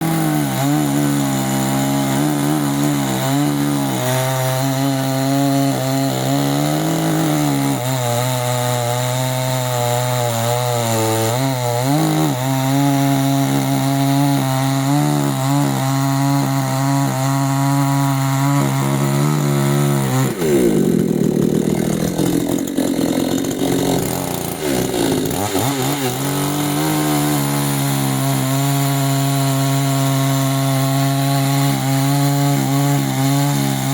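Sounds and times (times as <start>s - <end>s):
chainsaw cutting into wood: 0.0s - 33.9s
chainsaw running at high revs: 0.0s - 33.9s.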